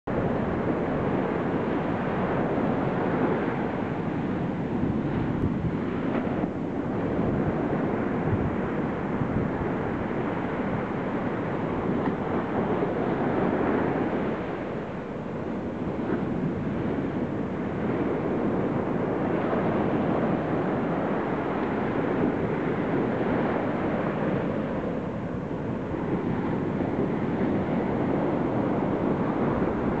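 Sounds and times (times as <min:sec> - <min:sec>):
wind on microphone: 0:00.0 - 0:30.0
ocean waves washing on beach: 0:00.1 - 0:30.0.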